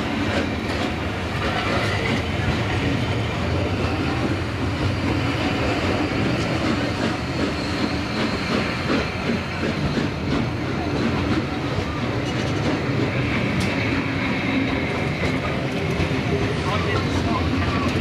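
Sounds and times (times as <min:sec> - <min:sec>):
train wheels clattering over rail joints: 0:00.0 - 0:18.0.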